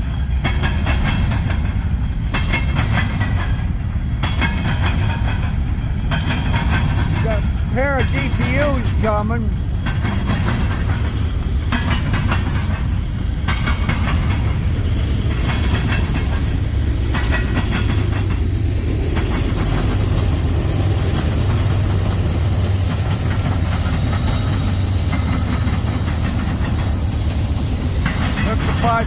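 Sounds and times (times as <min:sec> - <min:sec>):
locomotive engine hum: 0:00.0 - 0:29.0
train wheels rumbling: 0:00.0 - 0:29.0
wheels clicking over rail joints: 0:00.0 - 0:29.0.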